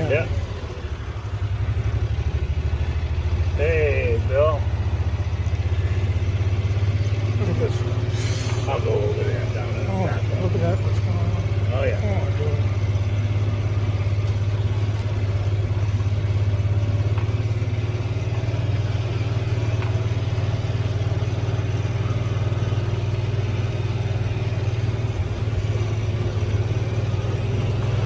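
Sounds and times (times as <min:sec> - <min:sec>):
vehicle engine running low: 0:00.0 - 0:28.0.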